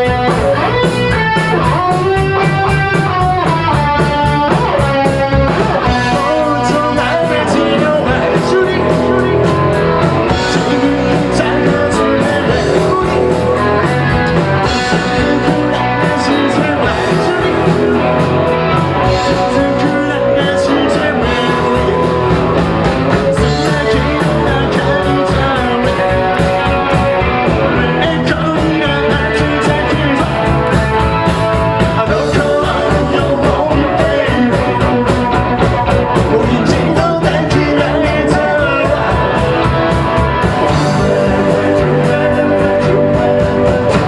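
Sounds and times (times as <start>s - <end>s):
person singing: 0.0s - 44.0s
punk rock band playing: 0.0s - 44.0s.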